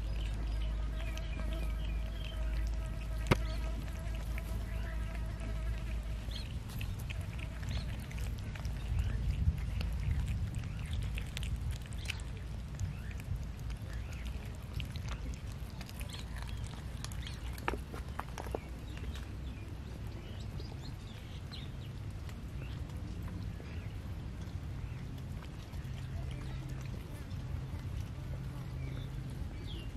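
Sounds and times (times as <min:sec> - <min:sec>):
cats chewing wet smacks: 0:00.0 - 0:29.9
low background rumble: 0:00.0 - 0:29.9.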